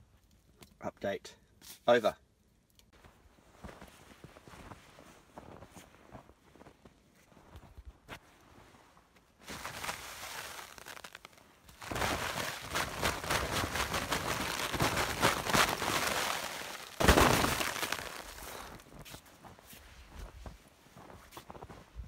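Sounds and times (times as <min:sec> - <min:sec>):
snow crunching: 0:03.0 - 0:21.9.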